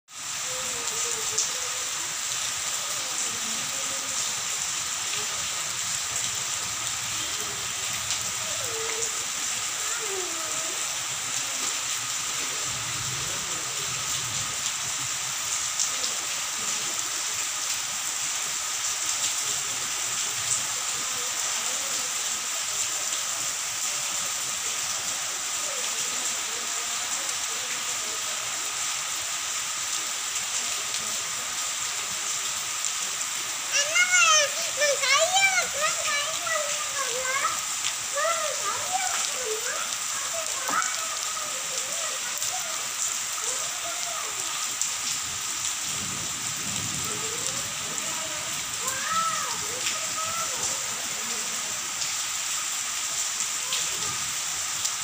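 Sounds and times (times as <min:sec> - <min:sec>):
rain on paved road: 0:00.1 - 0:55.0.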